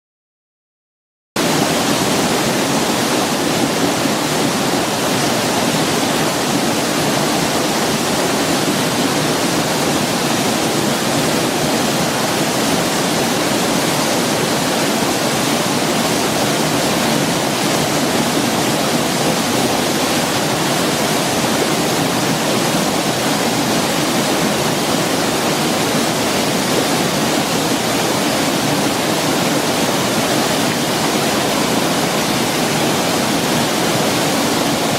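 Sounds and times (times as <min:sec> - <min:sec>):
waterfall roaring: 0:01.4 - 0:34.9.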